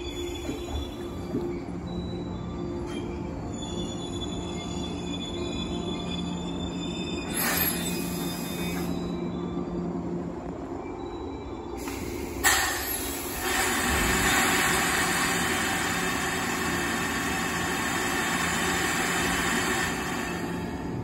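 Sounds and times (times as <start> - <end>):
train low hum: 0.0 - 21.0.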